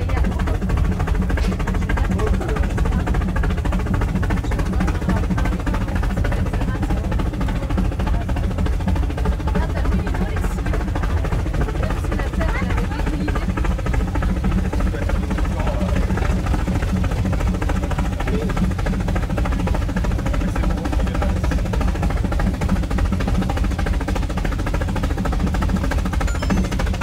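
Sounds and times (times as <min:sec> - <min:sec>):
cars rattling on cog track: 0:00.0 - 0:25.5
train rumbling: 0:00.0 - 0:27.0.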